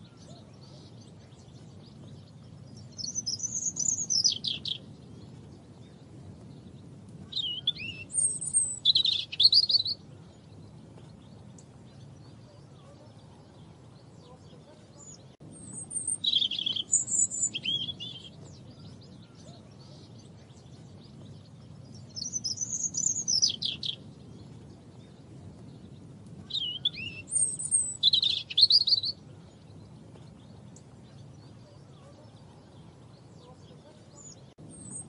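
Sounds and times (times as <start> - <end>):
faint low background rumble: 0.0 - 35.0
robin singing: 0.0 - 35.0.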